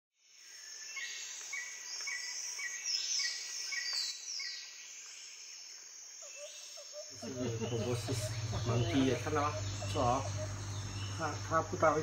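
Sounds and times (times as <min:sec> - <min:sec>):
high insect drone: 0:00.2 - 0:12.0.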